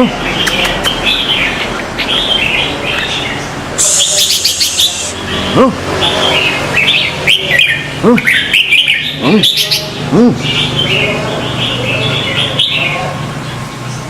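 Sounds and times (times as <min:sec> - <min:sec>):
low rising and falling bird calls: 0:00.0 - 0:13.7
birds chirping: 0:00.0 - 0:14.0
high bird twittering: 0:00.0 - 0:14.0.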